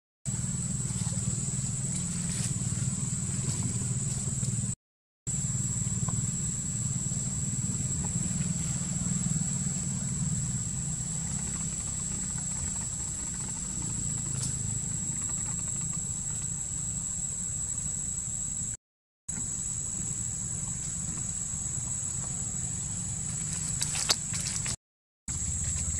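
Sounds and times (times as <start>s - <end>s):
high-pitched insect drone: 0.3s - 25.9s.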